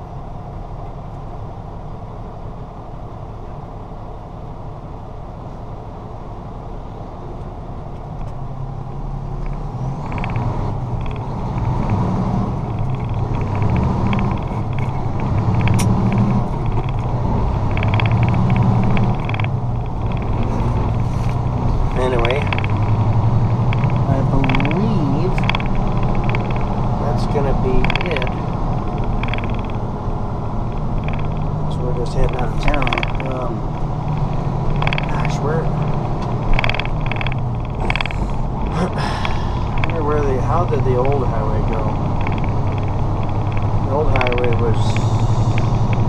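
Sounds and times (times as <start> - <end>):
truck diesel engine: 0.0 - 46.0.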